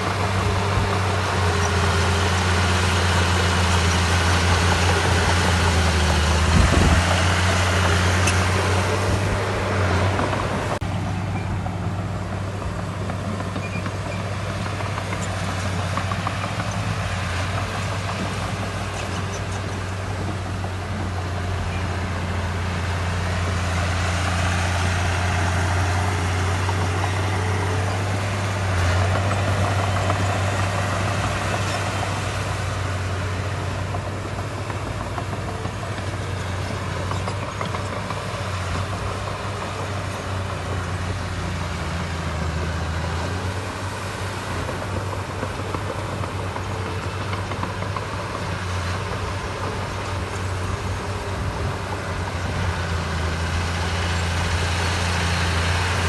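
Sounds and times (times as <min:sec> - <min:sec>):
heavy diesel engine humming: 0:00.0 - 0:56.0.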